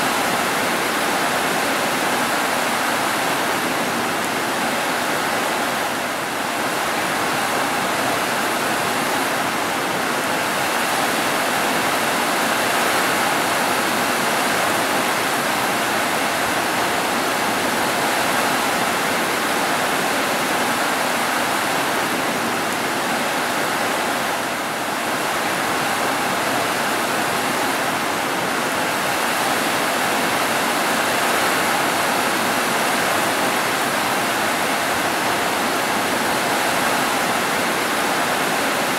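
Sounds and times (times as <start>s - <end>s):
heavy rain on roofs: 0.0s - 38.9s.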